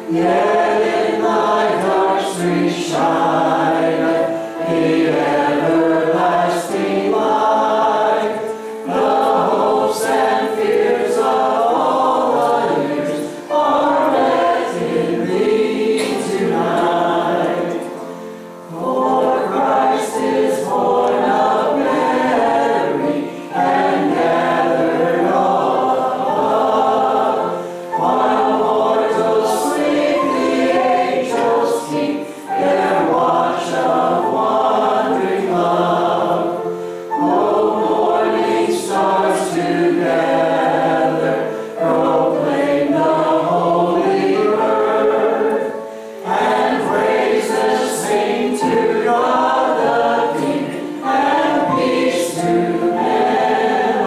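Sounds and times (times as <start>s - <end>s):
man and woman singing duet: 0.0s - 54.0s.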